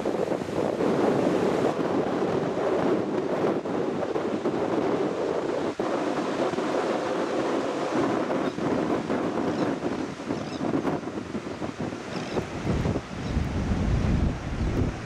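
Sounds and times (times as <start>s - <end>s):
ocean surf breaking: 0.0s - 15.0s
wind on microphone: 0.0s - 15.0s.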